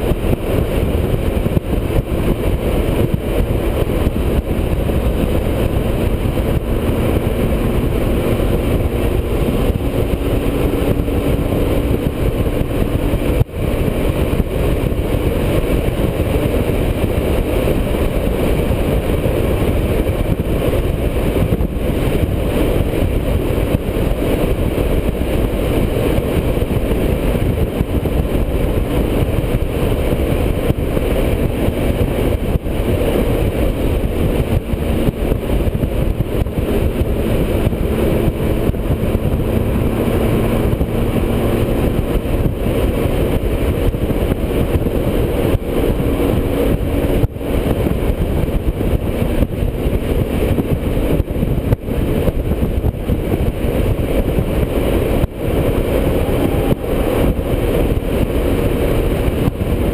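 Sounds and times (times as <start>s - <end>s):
motorcycle cruising: 0.0s - 59.9s
wind noise: 0.0s - 59.9s.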